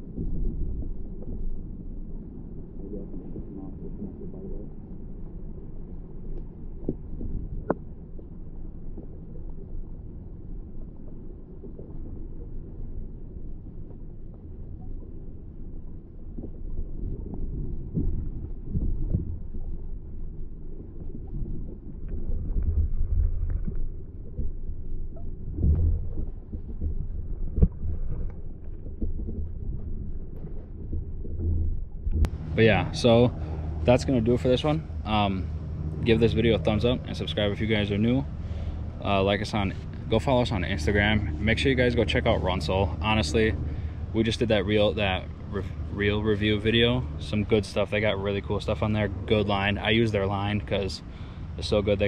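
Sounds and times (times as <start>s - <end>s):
muffled underwater water rumble: 0.0s - 52.0s.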